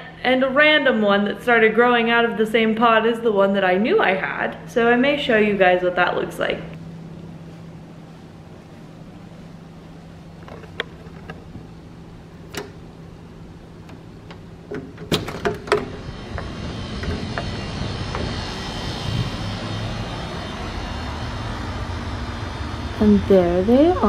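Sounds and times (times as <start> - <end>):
low hum: 0.0 - 24.0
outdoor background hiss: 0.0 - 24.0.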